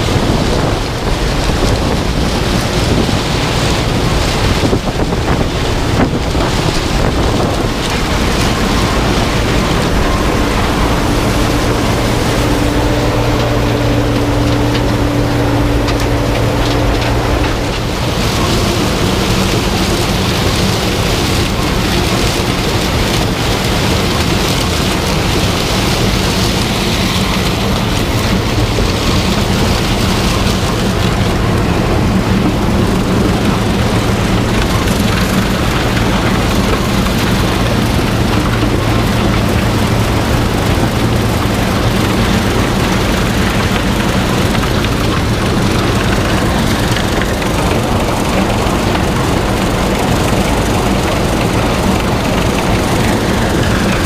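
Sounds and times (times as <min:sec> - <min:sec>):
diesel engine hum: 0:00.0 - 0:54.0
loud rushing noise: 0:00.0 - 0:54.0.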